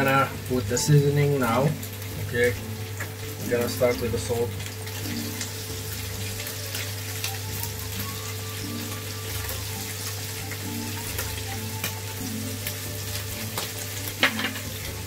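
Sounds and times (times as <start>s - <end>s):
beef sizzling in pan: 0.0s - 15.0s.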